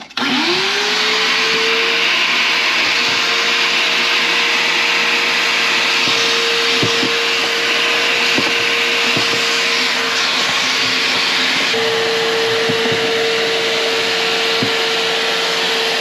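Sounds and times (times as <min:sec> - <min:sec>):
carpet cleaner suction motor whine: 0:00.0 - 0:16.0.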